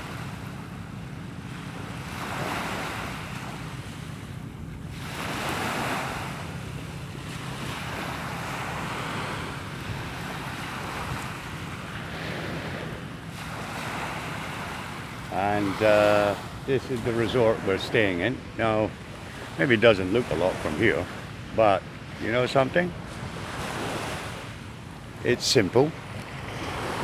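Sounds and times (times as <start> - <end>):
wind buffeting microphone: 0.0 - 25.2
small waves on beach: 0.0 - 27.0.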